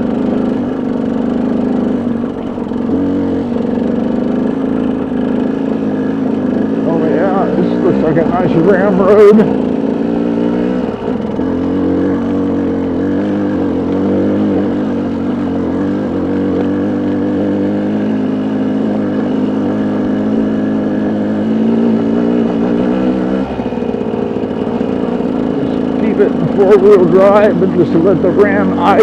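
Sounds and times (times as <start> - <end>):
truck engine running at low revs: 0.0 - 29.0.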